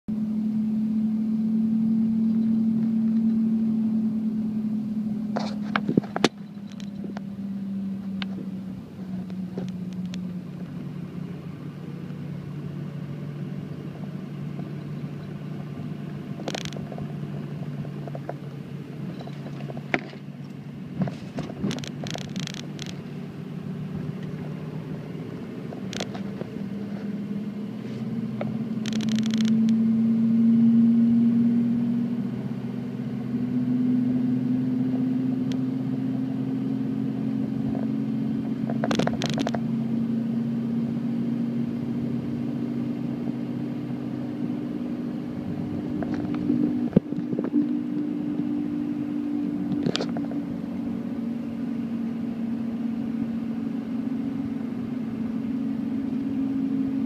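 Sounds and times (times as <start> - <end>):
car engine and road hum: 0.1 - 57.0.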